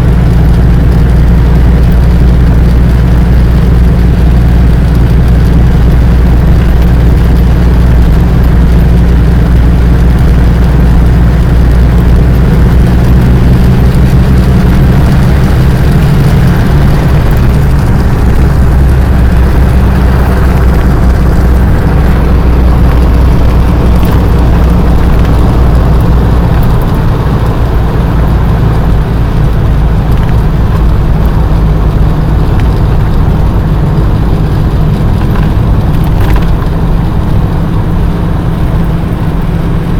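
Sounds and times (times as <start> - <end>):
engine humming: 0.0 - 39.9.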